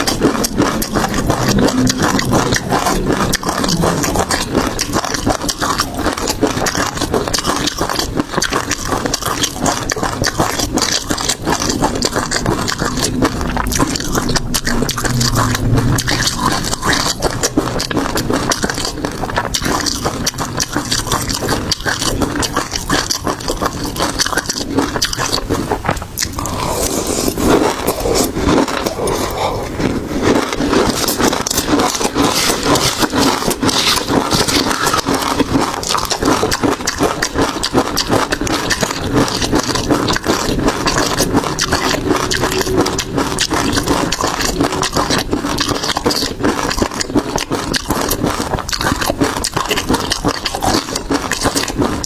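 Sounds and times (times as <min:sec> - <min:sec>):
wet chewing and crunching: 0:00.0 - 0:52.0.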